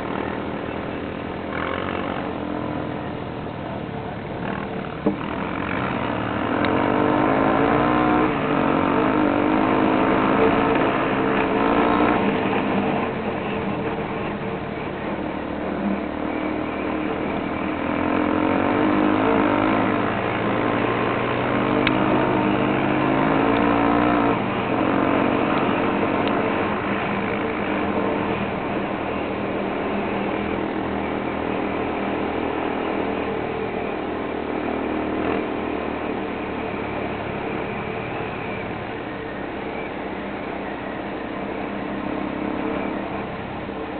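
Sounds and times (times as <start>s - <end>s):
motorcycle engines running: 0.0s - 43.9s.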